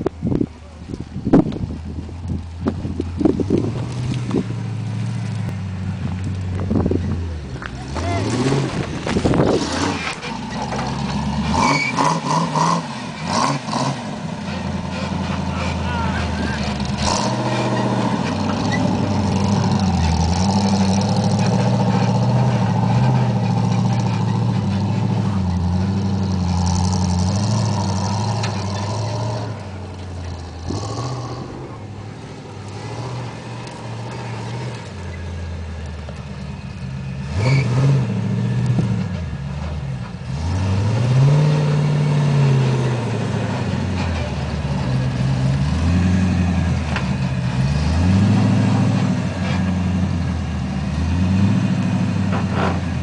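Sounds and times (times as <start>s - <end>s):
off-road vehicle engine labouring: 0.0s - 53.0s
engine revving: 3.2s - 36.4s, 37.0s - 53.0s.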